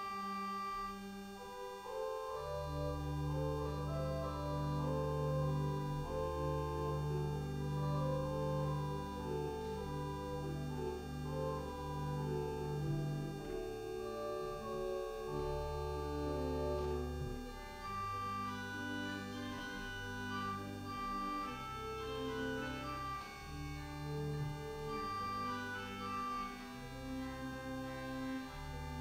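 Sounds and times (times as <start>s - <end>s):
church organ playing slowly: 0.0s - 29.0s.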